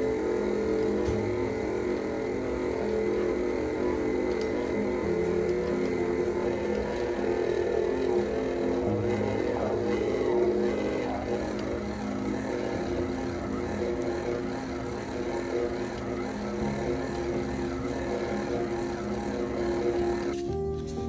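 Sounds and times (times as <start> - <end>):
stand mixer motor whirring: 0.0 - 21.0.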